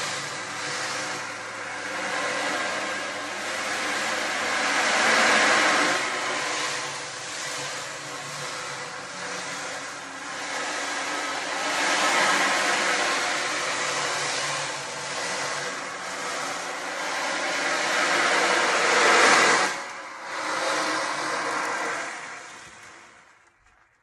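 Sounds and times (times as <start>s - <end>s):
ocean drum surf-like rush: 0.0s - 23.0s.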